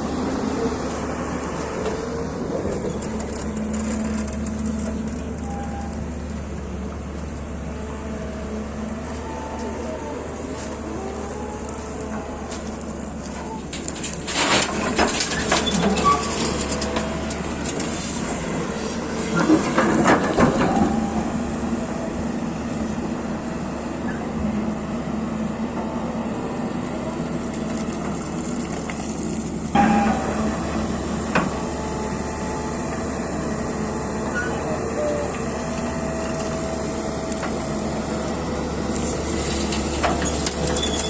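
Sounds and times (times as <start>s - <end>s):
diesel engine drone: 0.0s - 41.0s.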